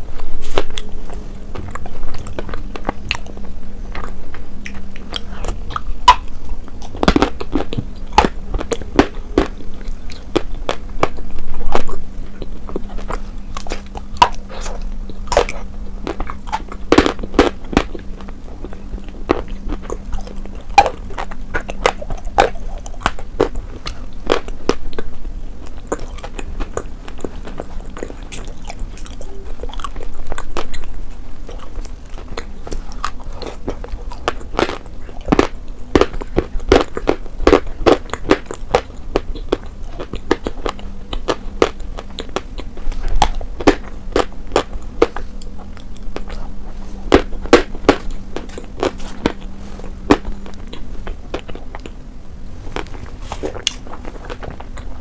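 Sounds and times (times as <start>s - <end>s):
chewing meat with mouth smacks: 0.2s - 52.0s, 52.6s - 55.0s.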